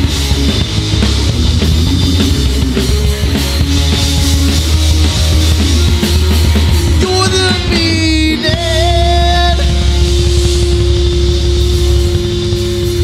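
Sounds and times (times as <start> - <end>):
bass guitar: 0.0 - 13.0
drum kit: 0.0 - 13.0
electric guitars: 0.0 - 13.0.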